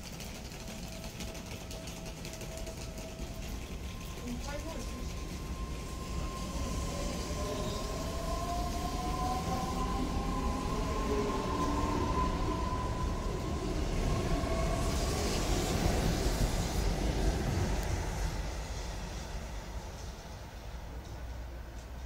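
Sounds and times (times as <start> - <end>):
steady traction motor whine: 0.0 - 21.4
train wheels rumbling: 0.0 - 22.0.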